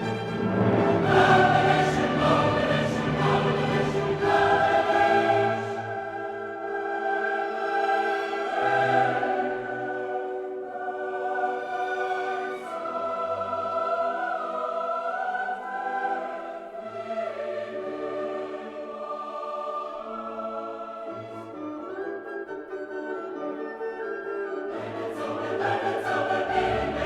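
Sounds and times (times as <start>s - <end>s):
choir singing sustained chords: 0.0s - 22.7s, 24.6s - 27.0s
low musical accompaniment: 0.0s - 27.0s.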